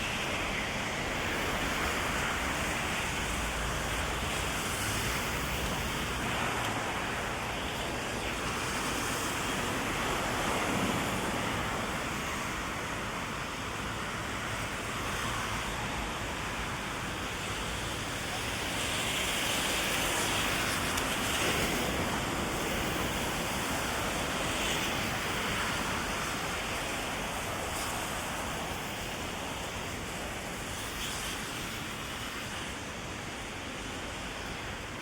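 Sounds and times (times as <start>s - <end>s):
heavy rain on a street: 0.0s - 35.0s.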